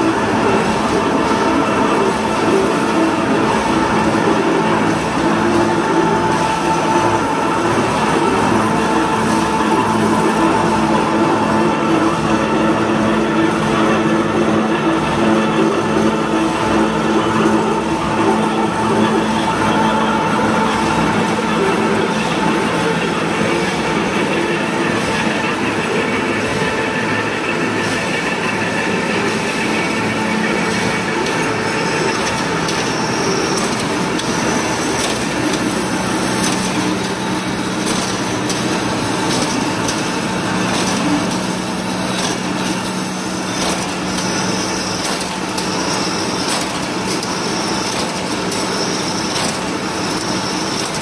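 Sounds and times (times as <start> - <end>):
higher recurring machine sound: 0.0 - 51.0
wire making machine running: 0.0 - 51.0.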